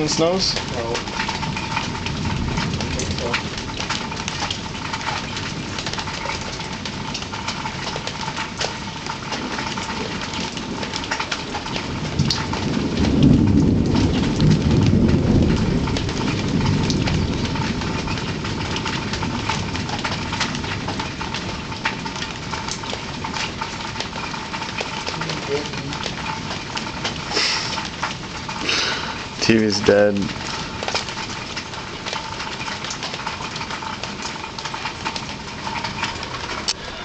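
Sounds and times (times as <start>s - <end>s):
dripping ticks: 0.0s - 36.8s
steady rain: 0.0s - 37.0s
thunder rumbling: 0.0s - 37.0s.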